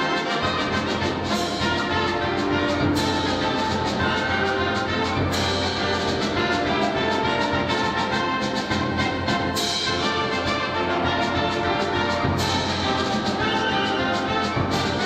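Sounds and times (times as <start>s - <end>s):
brass-heavy band music: 0.0s - 15.0s.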